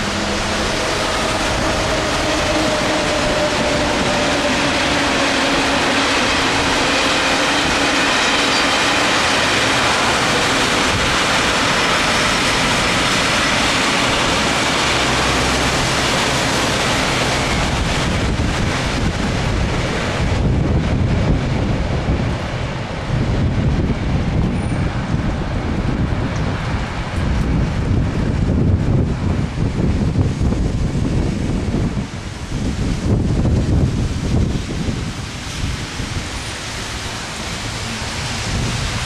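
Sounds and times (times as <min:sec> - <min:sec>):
vehicle rushing in rain: 0:00.0 - 0:24.4, 0:25.0 - 0:39.0.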